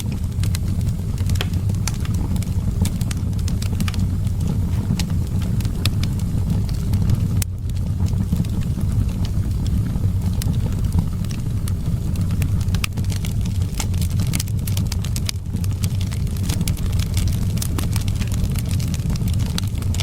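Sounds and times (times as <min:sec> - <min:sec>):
low rumble of wind: 0:00.0 - 0:20.0
wood fire crackling: 0:00.0 - 0:20.0.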